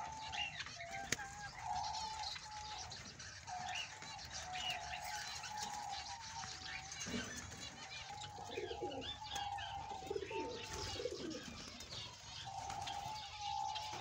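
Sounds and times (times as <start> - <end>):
lower bird calls: 0.0 - 14.0
wavering bird call: 0.0 - 14.0.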